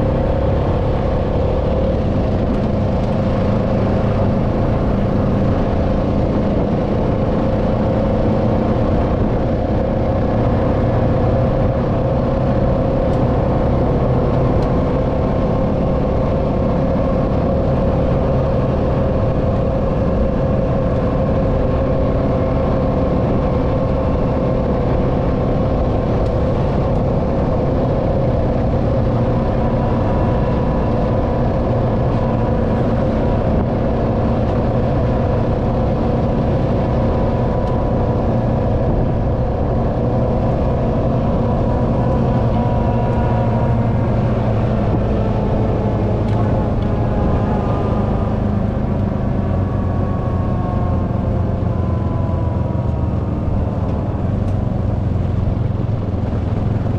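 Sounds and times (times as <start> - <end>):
atv engine drone: 0.0 - 56.9.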